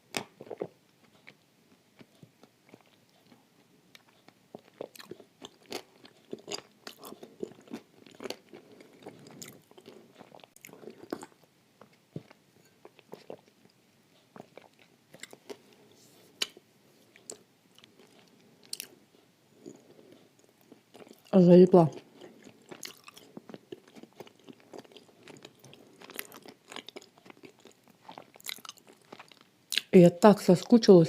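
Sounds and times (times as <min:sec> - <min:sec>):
moist chewing: 0:00.1 - 0:29.9.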